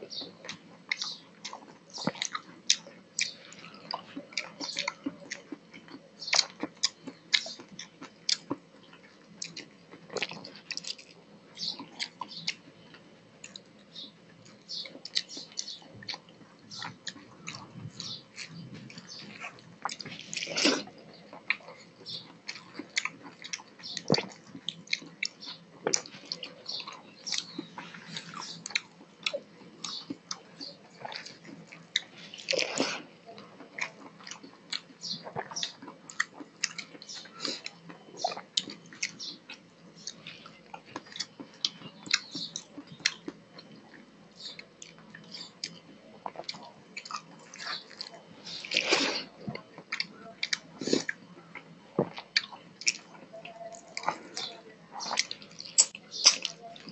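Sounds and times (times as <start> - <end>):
wet chewing and mouth sounds: 0.0 - 56.9.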